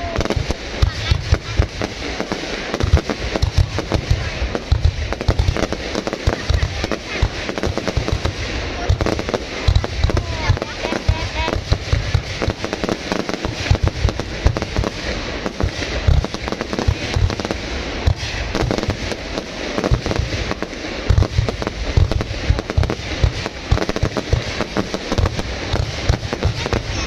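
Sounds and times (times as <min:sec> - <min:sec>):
deep firework booms: 0:00.0 - 0:27.0
fireworks bangs and crackling: 0:00.0 - 0:27.0.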